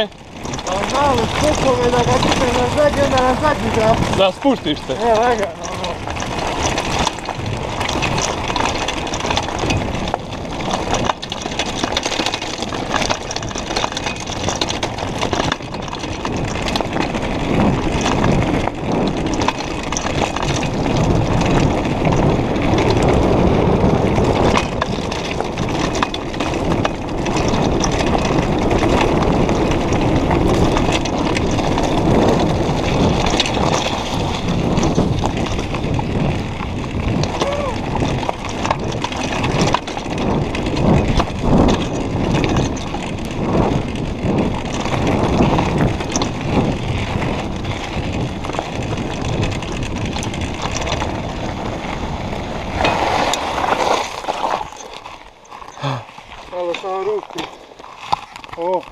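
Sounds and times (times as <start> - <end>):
bike rattling over bumps: 0.0 - 58.9
wind on microphone: 0.0 - 58.9
tyres crunching over stones: 0.2 - 23.4, 24.0 - 58.9.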